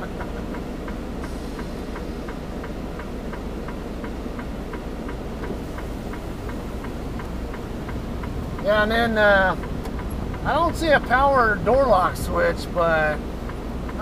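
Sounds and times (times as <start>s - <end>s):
diesel engine idling: 0.0s - 14.0s
steady ticking: 0.0s - 14.0s.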